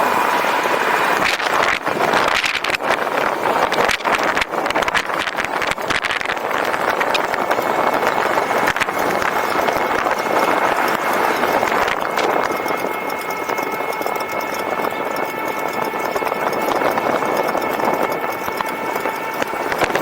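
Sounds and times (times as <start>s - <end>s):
multi-tone motor whine: 0.0s - 20.0s.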